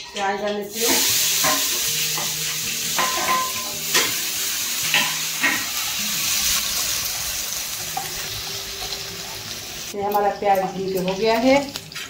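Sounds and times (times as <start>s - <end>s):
onion sizzling in hot oil: 0.6s - 12.0s.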